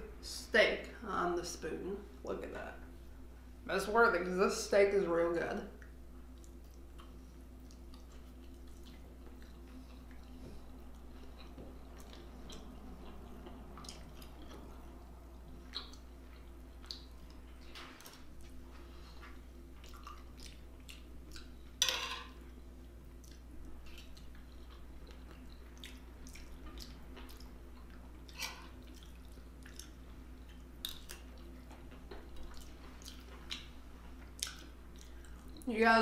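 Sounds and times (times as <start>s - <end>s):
person chewing food: 5.8s - 21.8s, 22.4s - 35.6s.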